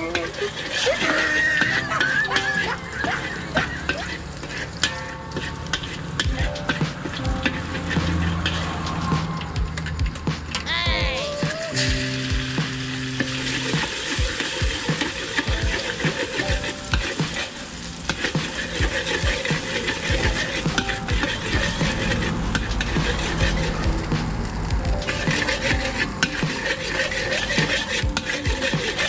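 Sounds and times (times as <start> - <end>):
egg sizzling in hot oil: 0.0 - 10.7, 11.5 - 29.0
metal spatula scraping wok: 0.0 - 10.7, 11.7 - 29.0.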